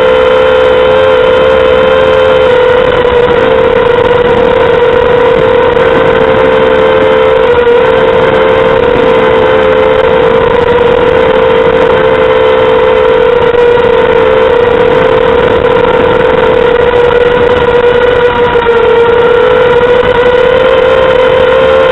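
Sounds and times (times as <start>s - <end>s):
drone motors whining: 0.0s - 21.9s.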